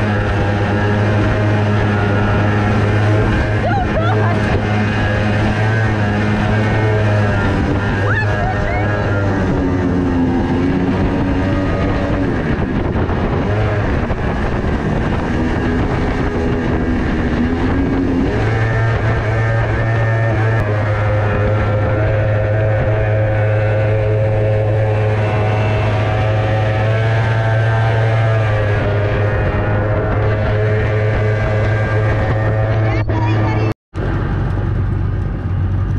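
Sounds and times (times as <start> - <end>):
boat motor running: 0.0 - 35.9.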